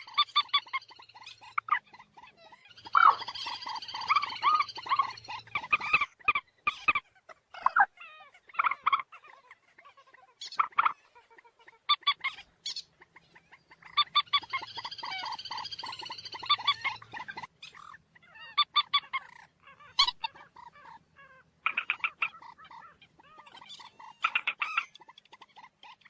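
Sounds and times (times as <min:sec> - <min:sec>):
moorhen croaking calls: 0:00.0 - 0:26.0.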